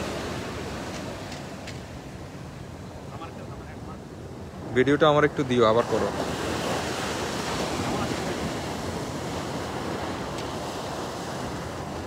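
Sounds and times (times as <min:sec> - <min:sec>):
small waves breaking on beach: 0:00.0 - 0:12.0.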